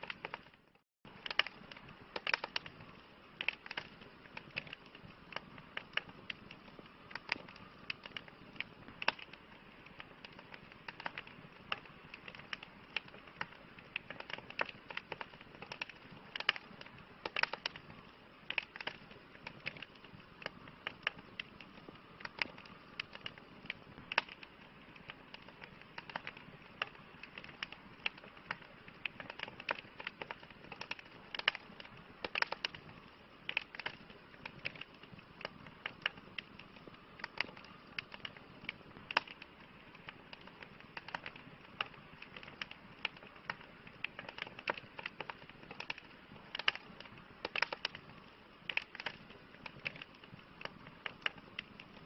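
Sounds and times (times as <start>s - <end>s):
campfire crackling: 0.0s - 52.0s
hiss of flames: 0.0s - 52.0s.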